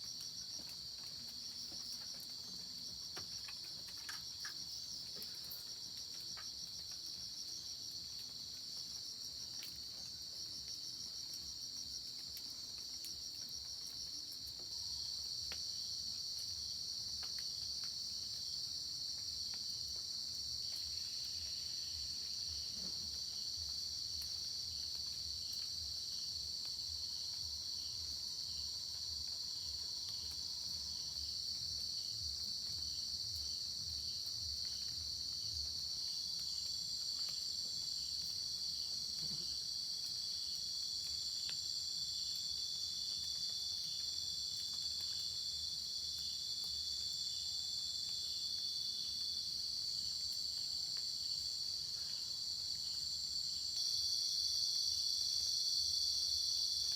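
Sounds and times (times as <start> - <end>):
crickets and night insects trilling: 0.0 - 56.9.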